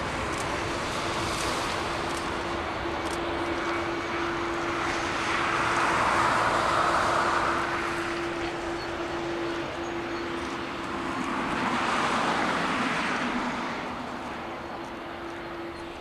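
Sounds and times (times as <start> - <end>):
jet engines at takeoff thrust: 0.0 - 16.0.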